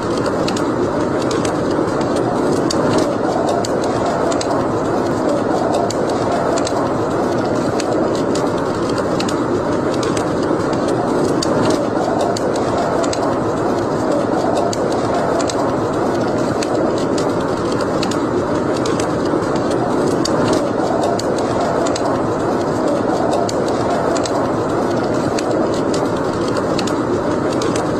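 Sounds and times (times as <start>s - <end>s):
fire crackling and popping: 0.0s - 27.9s
fire flames rushing: 0.0s - 27.9s.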